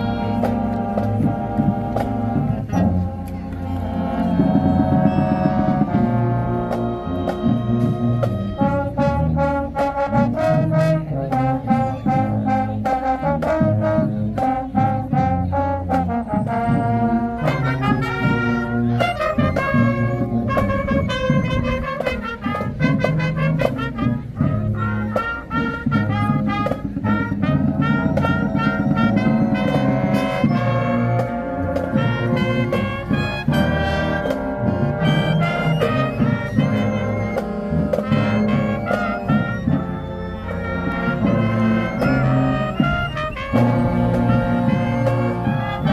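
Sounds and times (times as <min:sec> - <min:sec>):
brass carrying melody: 0:00.0 - 0:45.9
drumline percussion: 0:00.0 - 0:45.9
low brass: 0:00.0 - 0:45.9.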